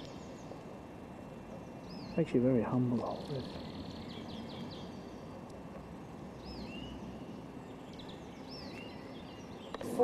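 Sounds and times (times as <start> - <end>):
low outdoor background noise: 0.0 - 10.0
small birds chirping: 0.0 - 10.0.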